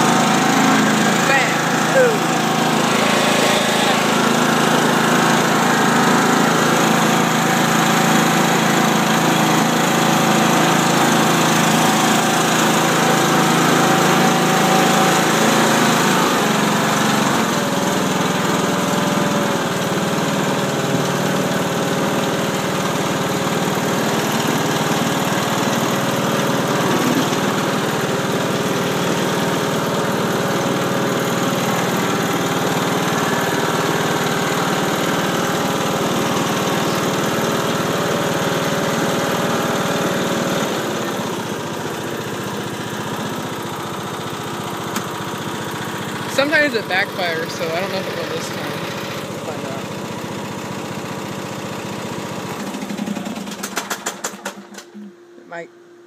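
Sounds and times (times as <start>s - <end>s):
lawn tractor engine running: 0.0s - 55.2s.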